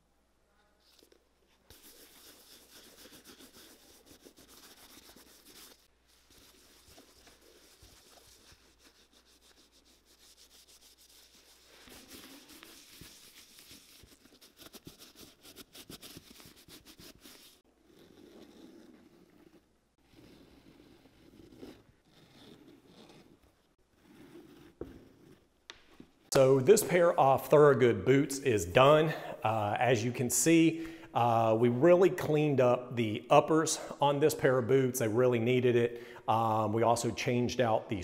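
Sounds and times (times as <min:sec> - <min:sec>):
gloved hand rubbing leather: 0:00.8 - 0:31.6.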